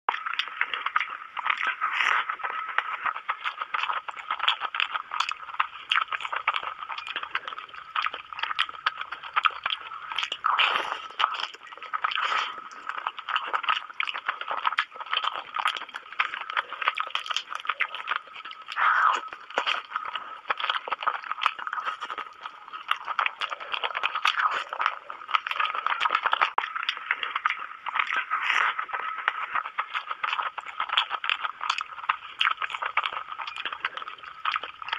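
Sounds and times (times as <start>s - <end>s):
person chewing and smacking: 0.1s - 34.9s.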